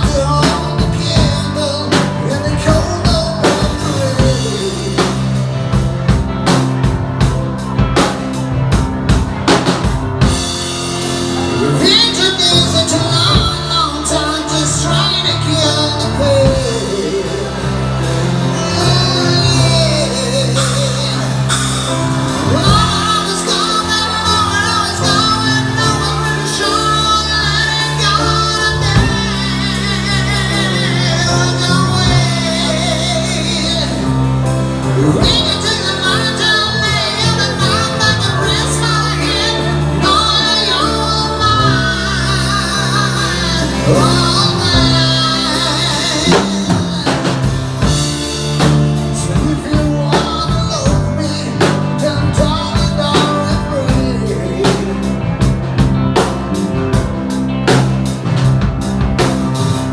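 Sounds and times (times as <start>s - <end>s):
person singing: 0.0s - 59.9s.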